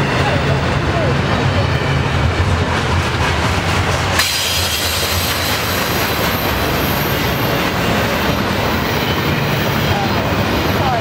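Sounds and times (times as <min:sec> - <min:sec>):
freight train wheels on rails: 0:00.0 - 0:11.0.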